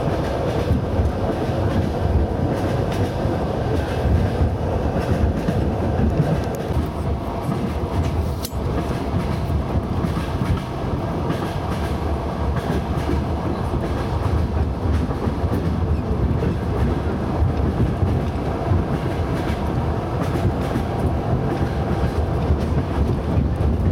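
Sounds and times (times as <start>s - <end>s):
rail clicks: 0.0s - 23.9s
train wheels rumbling on rails: 0.0s - 23.9s.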